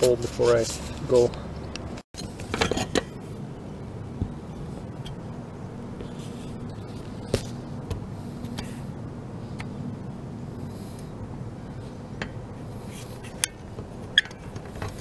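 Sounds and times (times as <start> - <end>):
outdoor rumble: 0.0 - 15.0.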